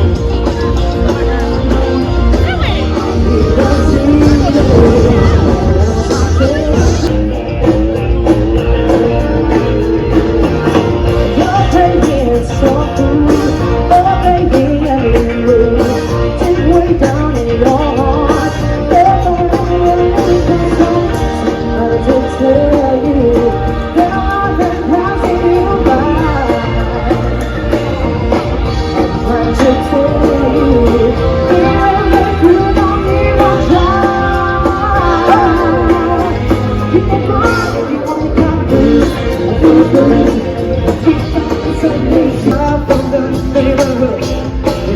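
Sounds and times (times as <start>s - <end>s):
rock and roll song: 0.0s - 44.9s.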